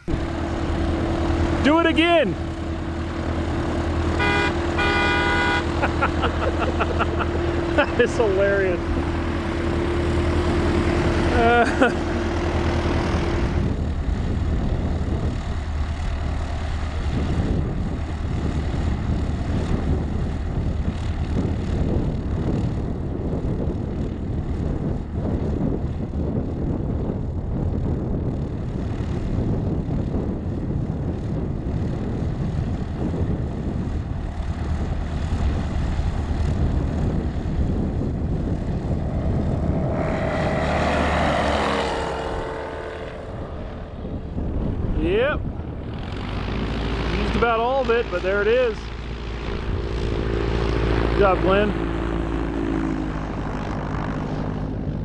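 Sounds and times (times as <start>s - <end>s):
propeller airplane engine drone: 0.0s - 55.0s.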